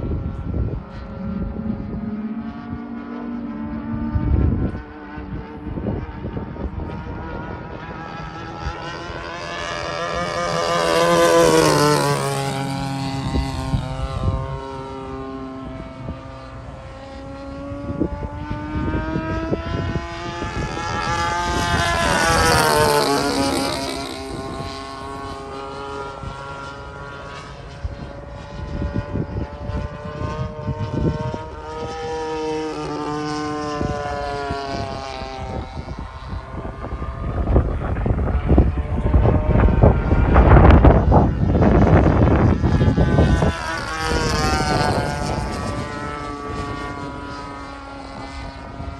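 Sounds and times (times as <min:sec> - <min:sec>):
model plane engine buzzing: 0:00.0 - 0:48.9.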